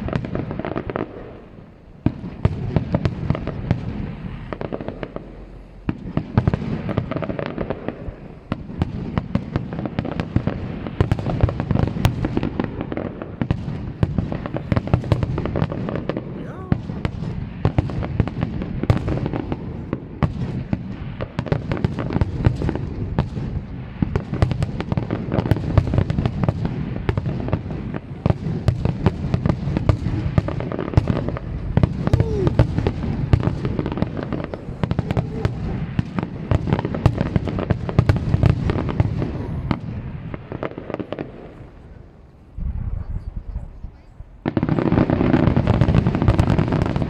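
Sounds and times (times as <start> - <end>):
fireworks bursts and crackle: 0.0 - 47.0.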